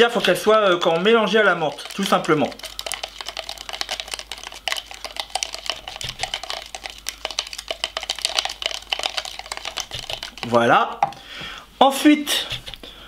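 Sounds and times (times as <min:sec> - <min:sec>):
ice clicking in swirled cup: 0:00.0 - 0:11.2.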